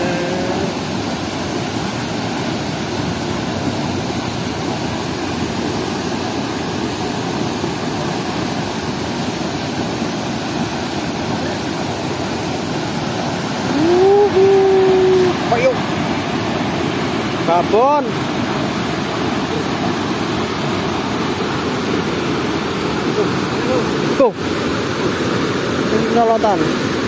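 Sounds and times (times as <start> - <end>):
water gushing over weir: 0.0 - 27.0.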